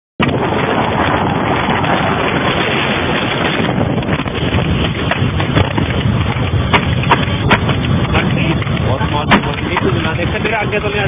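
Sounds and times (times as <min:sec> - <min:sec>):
wind buffeting microphone: 0:00.2 - 0:11.0.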